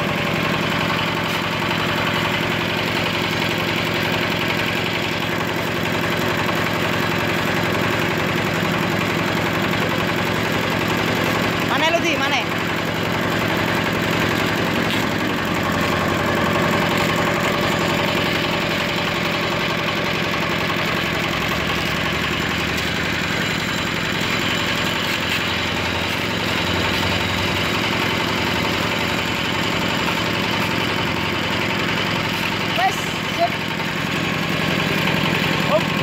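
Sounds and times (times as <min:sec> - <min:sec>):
hoist machine engine running: 0:00.0 - 0:36.0.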